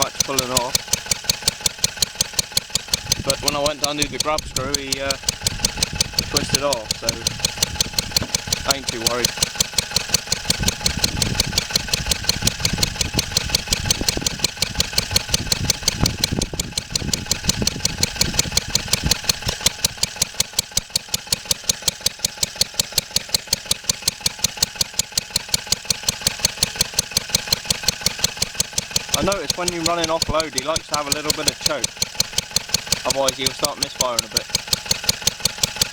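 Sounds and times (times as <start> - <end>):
stationary engine running: 0.0 - 35.9.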